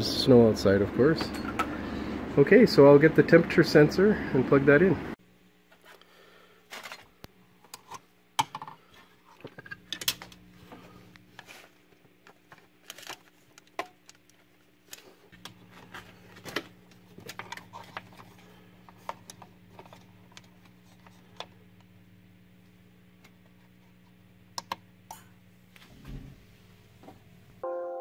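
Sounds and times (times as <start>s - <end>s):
steady low hum: 0.0s - 27.6s.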